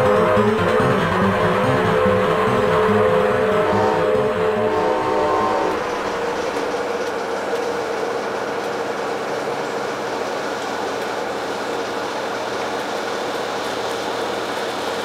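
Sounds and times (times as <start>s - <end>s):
train cabin rumble: 0.0s - 12.5s
train whine: 0.0s - 15.0s.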